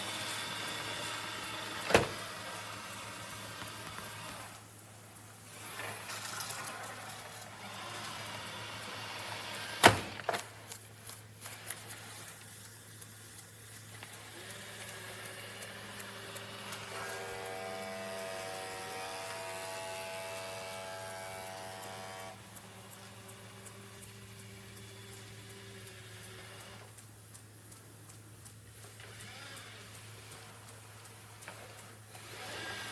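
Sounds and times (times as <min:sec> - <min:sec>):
robot vacuum motor and brush: 0:00.0 - 0:04.7, 0:05.4 - 0:10.8, 0:11.4 - 0:26.9, 0:28.8 - 0:32.9.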